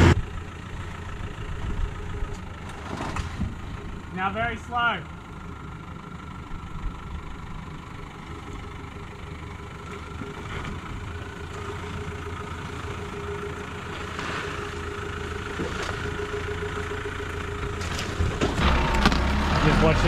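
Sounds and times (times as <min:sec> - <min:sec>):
engine running near idle: 0:00.0 - 0:20.0.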